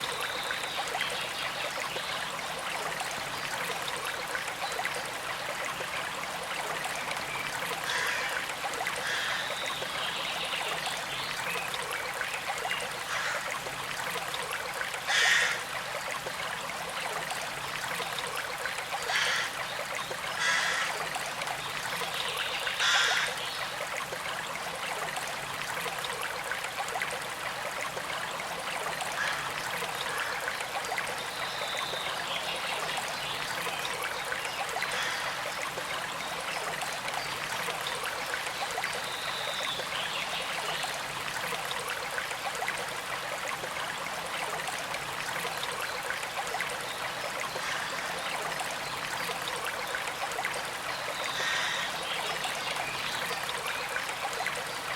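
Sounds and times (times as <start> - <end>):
creek trickling: 0.0 - 54.9.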